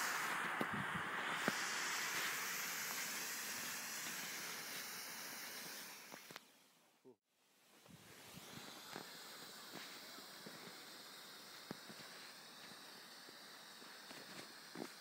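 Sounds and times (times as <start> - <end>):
smoke pot hissing: 0.0 - 15.0.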